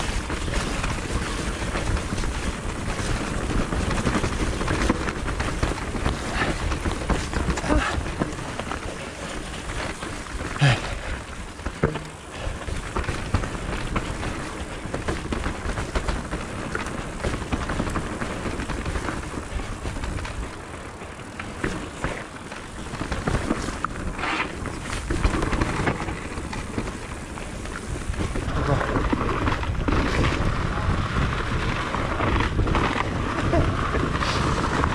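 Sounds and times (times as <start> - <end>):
bike rattles and knocks: 0.0 - 34.9
bike tyres rushing over dirt: 0.0 - 34.9.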